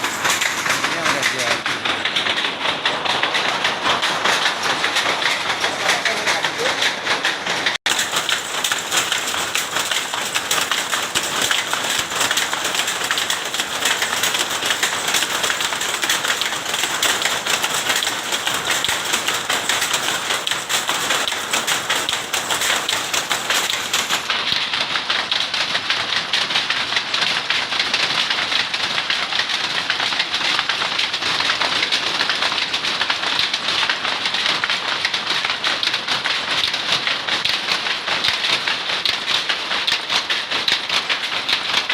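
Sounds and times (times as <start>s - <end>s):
textile machine clattering: 0.0s - 41.9s.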